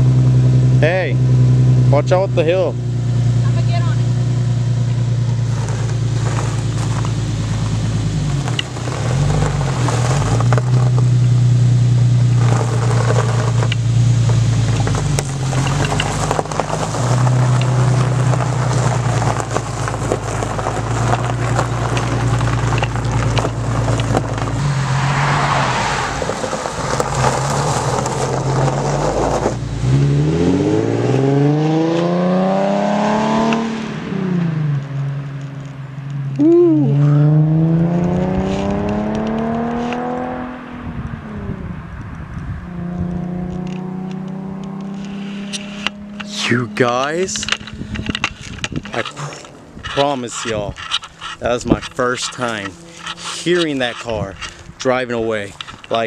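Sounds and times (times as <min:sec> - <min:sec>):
car engine idling and accelerating: 0:00.0 - 0:56.0.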